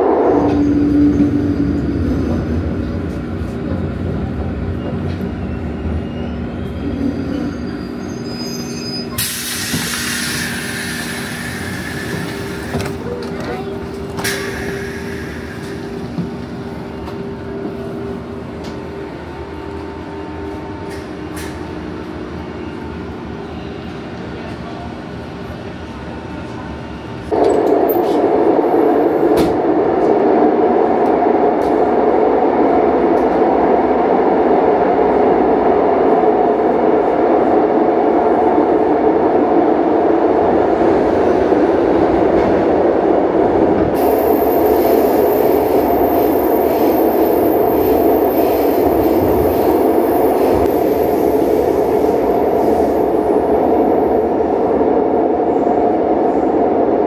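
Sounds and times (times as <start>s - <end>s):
train noise inside carriage: 0.0s - 57.0s.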